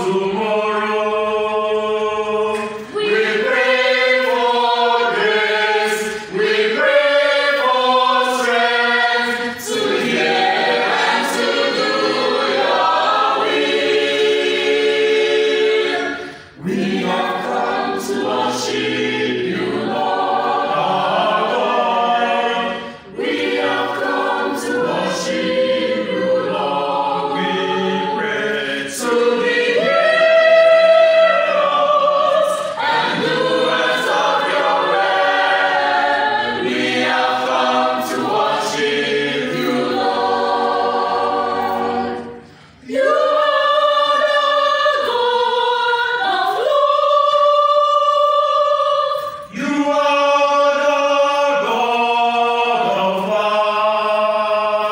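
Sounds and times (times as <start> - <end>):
mixed choir singing a cappella: 0.0 - 54.9.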